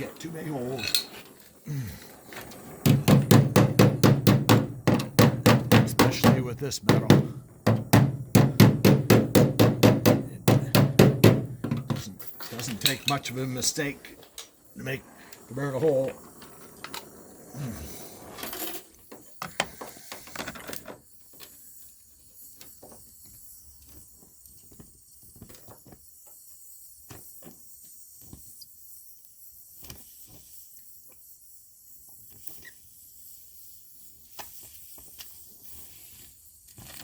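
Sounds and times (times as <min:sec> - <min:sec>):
welding arc hissing and crackling: 0:00.0 - 0:04.4, 0:05.2 - 0:08.2, 0:11.5 - 0:18.2, 0:18.8 - 0:37.0.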